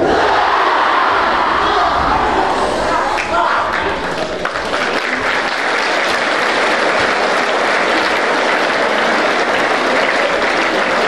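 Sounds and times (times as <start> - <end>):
large audience applauding: 2.0 - 11.0.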